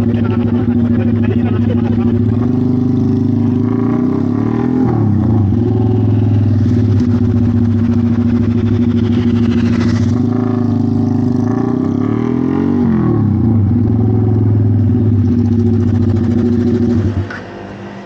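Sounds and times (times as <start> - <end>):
loud engine running: 0.0 - 18.0.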